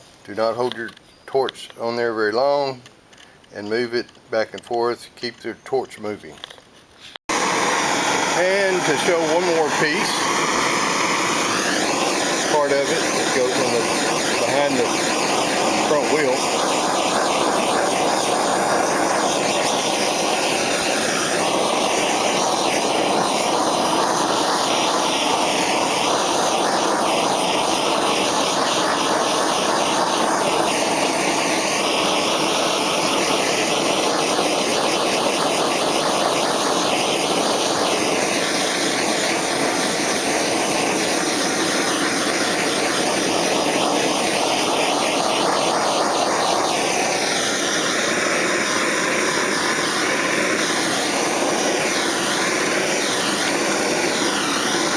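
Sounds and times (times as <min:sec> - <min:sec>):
propane torch flame rushing: 0:06.1 - 0:54.9.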